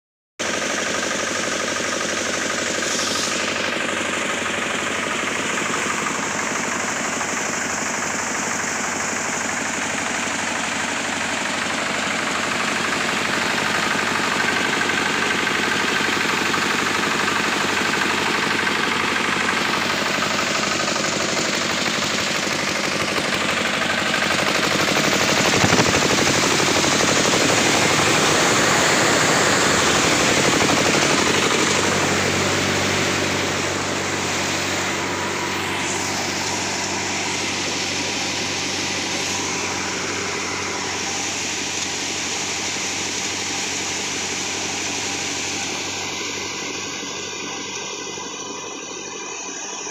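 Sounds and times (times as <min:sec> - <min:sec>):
diesel engine chugging: 0:00.4 - 0:49.9
thresher drum whirring: 0:00.4 - 0:49.9.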